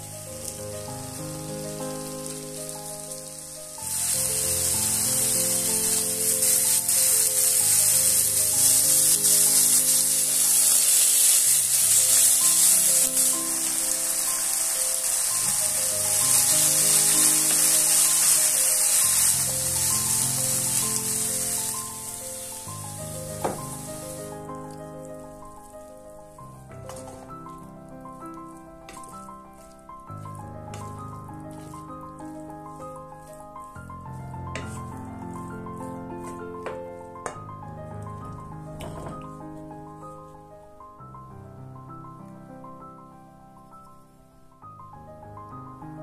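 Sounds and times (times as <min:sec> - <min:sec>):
chicken and onions sizzling in pan: 0:00.0 - 0:37.5.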